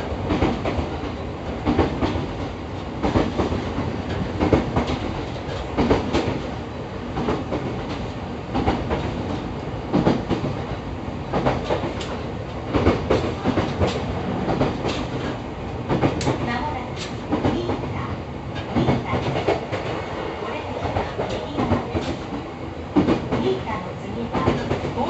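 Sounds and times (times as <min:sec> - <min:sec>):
train rumble inside car: 0:00.0 - 0:25.0.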